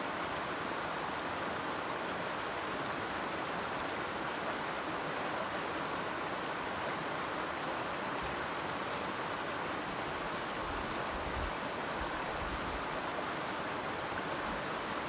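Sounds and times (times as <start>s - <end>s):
river rippling over stones: 0.0s - 15.0s.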